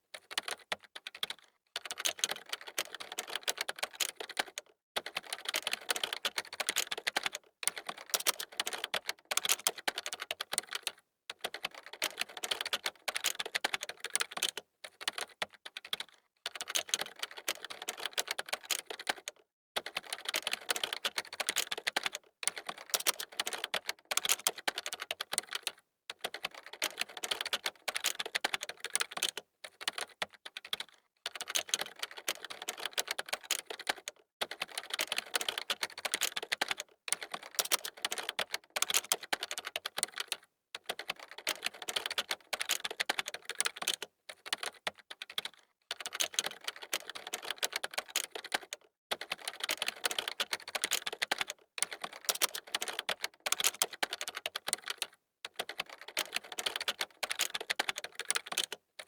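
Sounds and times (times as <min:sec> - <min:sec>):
typing on computer keyboard: 0:00.1 - 0:58.9.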